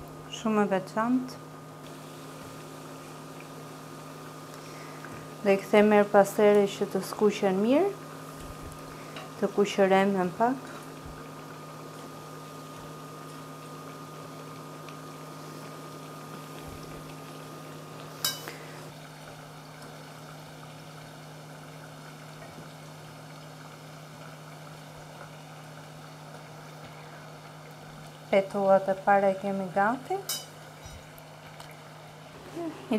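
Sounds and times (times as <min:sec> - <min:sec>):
oil sizzling in a pan: 0:01.4 - 0:32.9.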